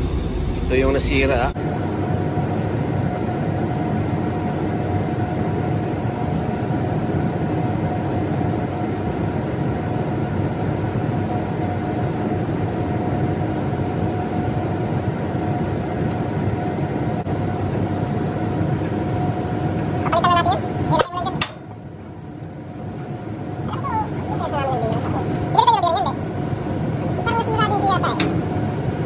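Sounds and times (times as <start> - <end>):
air-handling machinery drone: 0.0 - 29.0.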